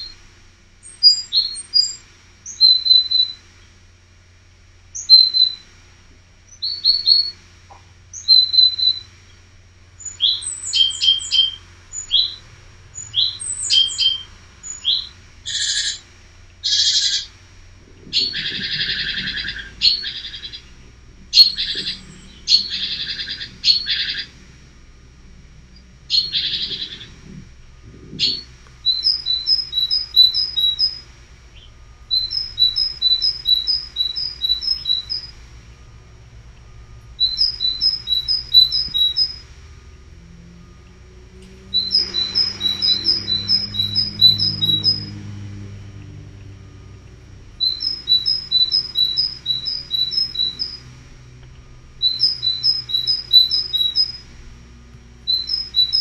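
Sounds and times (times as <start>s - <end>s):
buzzy bird calls: 0.0s - 0.2s, 0.8s - 3.8s, 4.9s - 5.7s, 6.5s - 56.0s
songbirds chirping: 0.0s - 56.0s.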